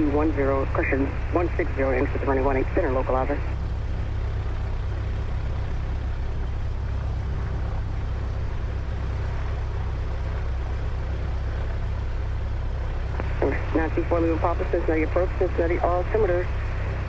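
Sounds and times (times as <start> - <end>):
plane engine idling: 0.0 - 17.0.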